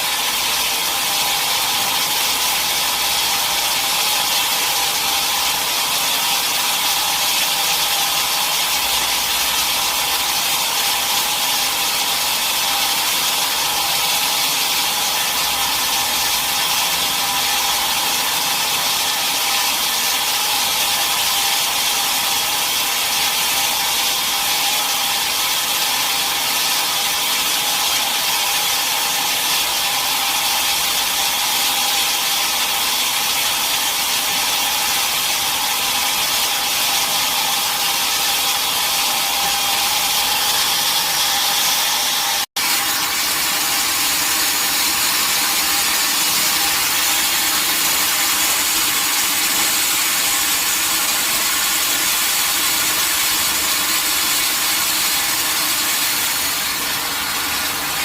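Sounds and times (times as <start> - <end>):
saw cutting through log: 0.0 - 58.0.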